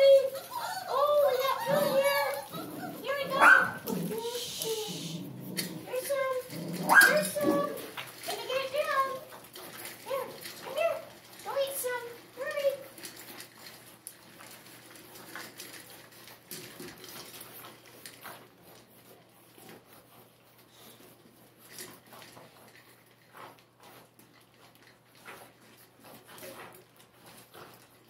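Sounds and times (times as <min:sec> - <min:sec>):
paws shuffling: 0:00.0 - 0:28.0
puppies crunching dry kibble: 0:00.0 - 0:28.0.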